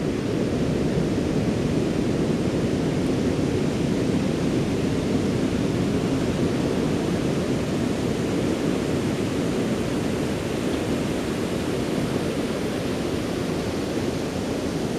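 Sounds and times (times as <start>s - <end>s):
ocean surf washing on shore: 0.0s - 14.9s.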